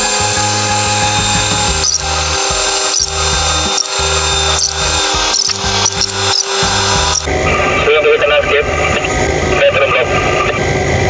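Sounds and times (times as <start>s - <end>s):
background music with bass line: 0.0s - 10.4s
crane engine and hydraulic whine: 0.0s - 11.0s.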